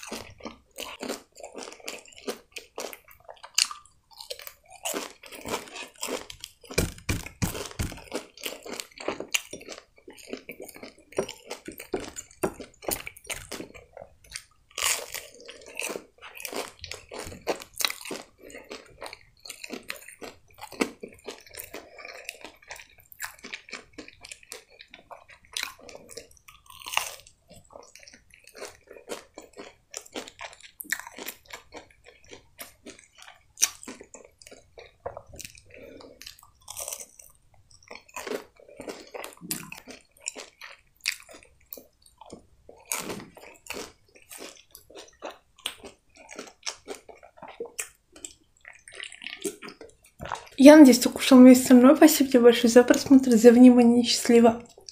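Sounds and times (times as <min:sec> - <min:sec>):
chewing crunchy food: 0:00.0 - 0:54.9.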